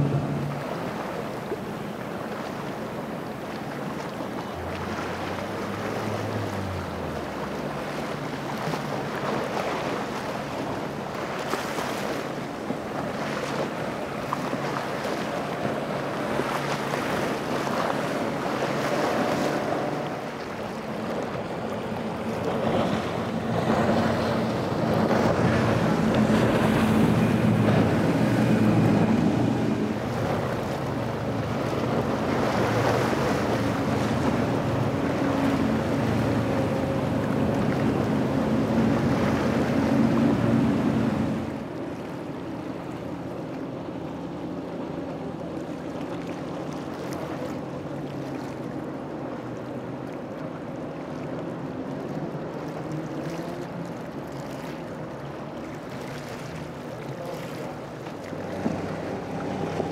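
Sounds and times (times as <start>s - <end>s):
waves and spray hissing: 0.0s - 43.3s, 51.7s - 59.9s
motorboat engines running: 0.0s - 59.9s.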